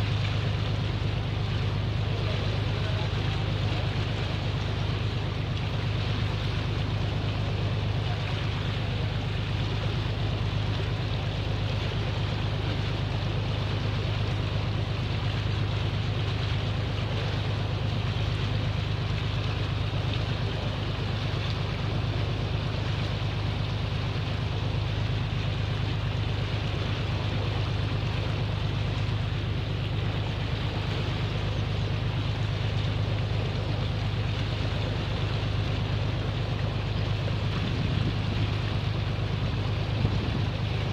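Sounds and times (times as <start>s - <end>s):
boat engine humming: 0.0s - 40.9s
water rushing: 0.0s - 40.9s
wind: 0.0s - 40.9s.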